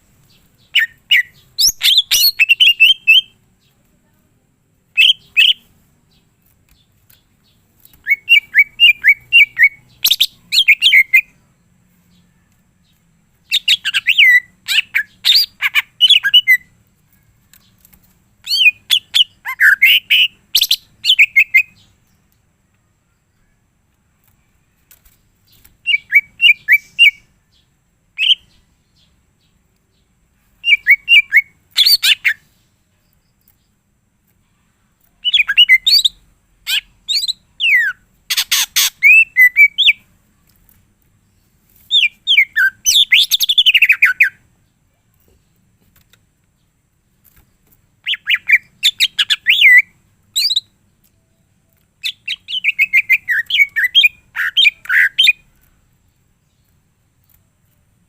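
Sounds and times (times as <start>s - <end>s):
bird singing high chirps: 0.2s - 3.8s, 4.9s - 22.3s, 25.5s - 33.8s, 34.6s - 40.5s, 41.2s - 44.8s, 48.0s - 55.8s.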